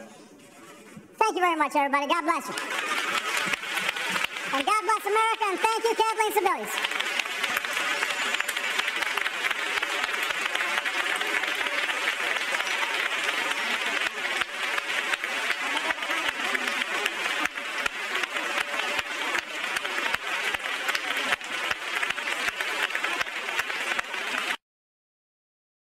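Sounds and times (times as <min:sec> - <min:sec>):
audience applauding: 0:02.1 - 0:24.6.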